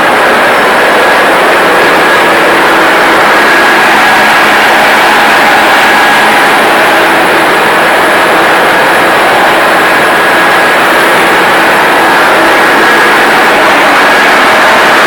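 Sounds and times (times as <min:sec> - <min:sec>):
diesel generator running: 0:00.0 - 0:15.0
faint steady whines: 0:00.0 - 0:15.0.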